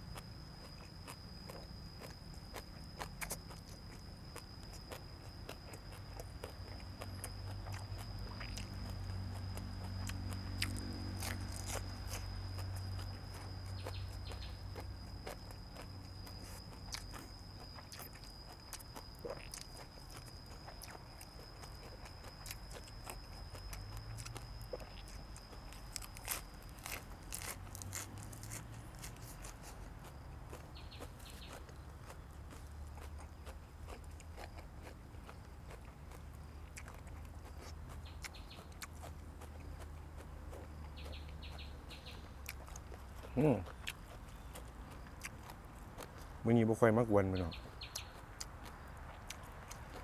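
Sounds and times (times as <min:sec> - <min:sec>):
chewing and crunching food: 0:00.0 - 0:50.0.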